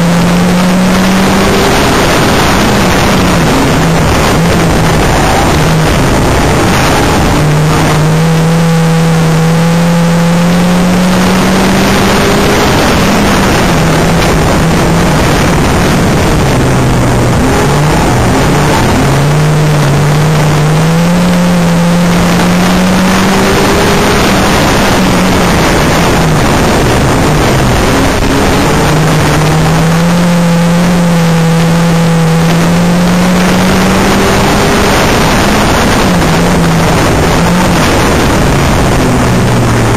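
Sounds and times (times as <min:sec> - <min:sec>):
racing car engine accelerating: 0:00.0 - 0:39.9
road and wind noise: 0:00.0 - 0:39.9.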